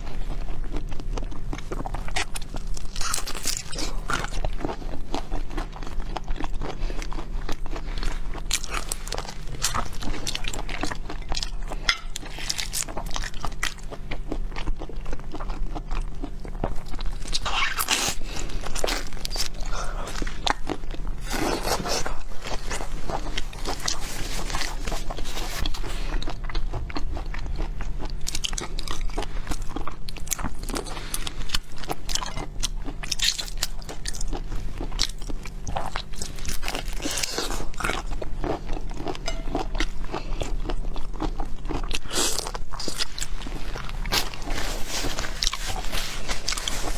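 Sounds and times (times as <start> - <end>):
biting and chewing seafood: 0.0 - 46.9
low electrical hum: 0.0 - 46.9.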